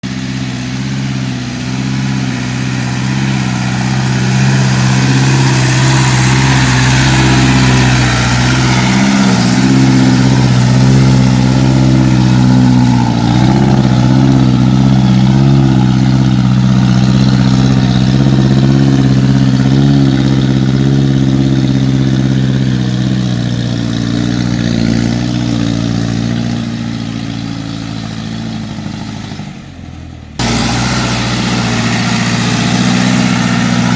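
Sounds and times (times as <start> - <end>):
truck diesel engine running: 0.0 - 33.9.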